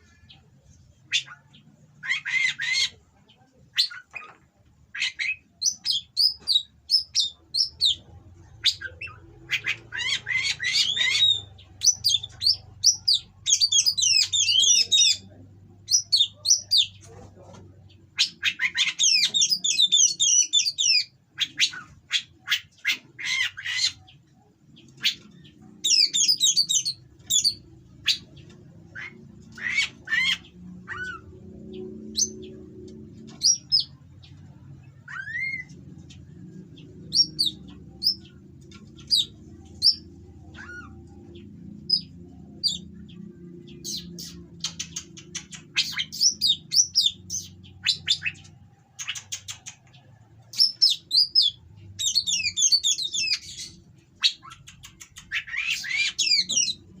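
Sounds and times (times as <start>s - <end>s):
bird singing scratchy notes: 0.0s - 57.0s.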